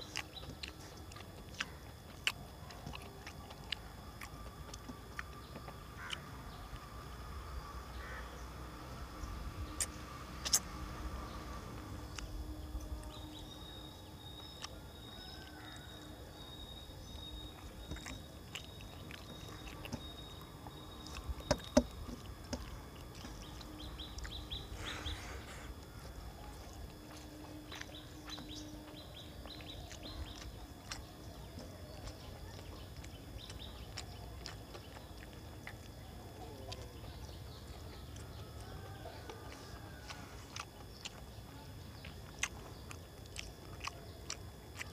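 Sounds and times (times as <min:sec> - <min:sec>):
faint birds: 0:00.0 - 0:44.9
person chewing: 0:00.0 - 0:44.9.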